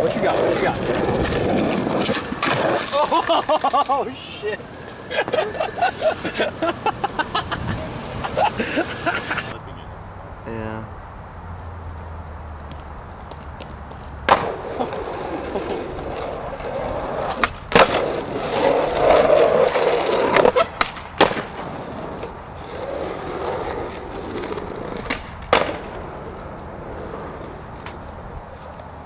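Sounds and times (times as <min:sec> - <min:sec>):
skateboard clacking on ground: 0:00.0 - 0:07.0, 0:12.6 - 0:29.0
skateboard wheels rolling on asphalt: 0:00.0 - 0:10.2, 0:11.1 - 0:29.0.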